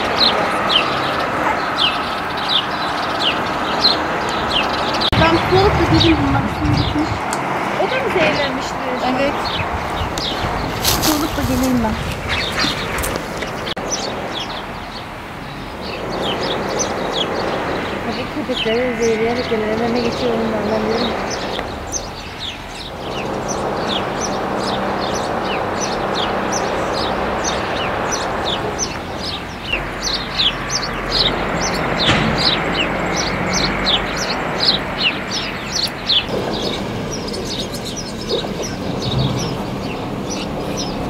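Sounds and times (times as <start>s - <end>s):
small birds chirping: 0.0s - 41.0s
steady background rush: 0.0s - 41.0s.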